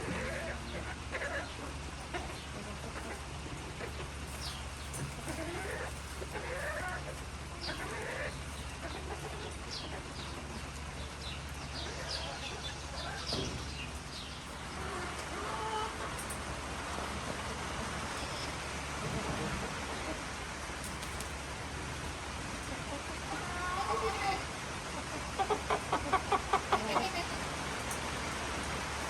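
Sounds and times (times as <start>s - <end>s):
farm animals calling: 0.0s - 29.0s.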